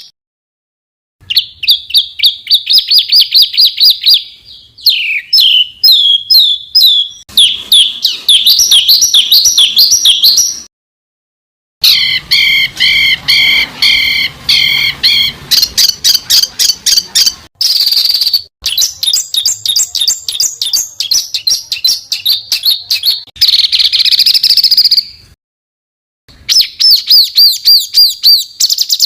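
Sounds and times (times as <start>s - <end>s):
songbird whistling and trilling: 1.3s - 10.7s, 11.8s - 25.2s, 26.3s - 29.0s.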